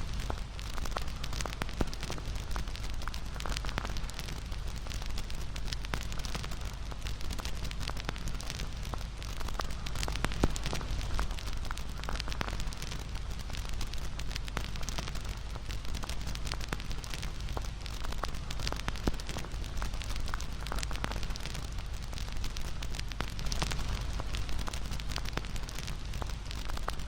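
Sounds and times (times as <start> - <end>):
low rumble of burning: 0.0 - 27.0
wood fire crackling and popping: 0.0 - 27.0.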